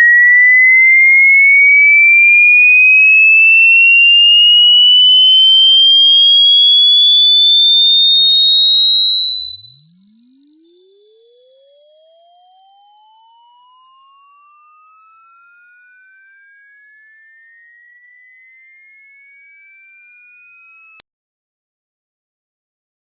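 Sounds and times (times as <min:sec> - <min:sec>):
electronic tone rising in pitch: 0:00.0 - 0:21.0.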